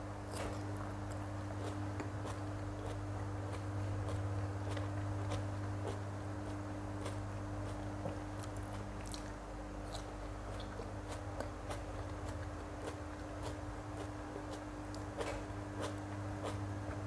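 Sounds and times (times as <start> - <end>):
steady low hum: 0.0 - 17.0
close chewing sounds: 0.2 - 17.0.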